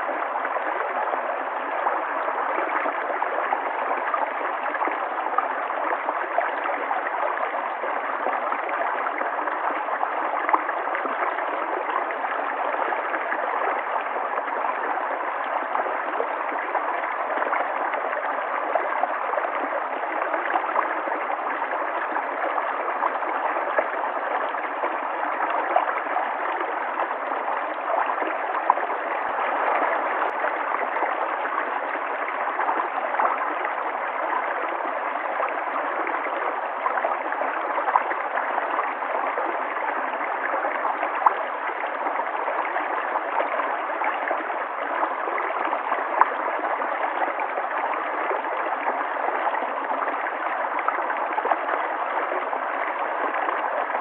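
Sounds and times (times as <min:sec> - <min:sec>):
river water flowing: 0:00.0 - 0:54.0
water gurgles and splashes: 0:00.0 - 0:54.0.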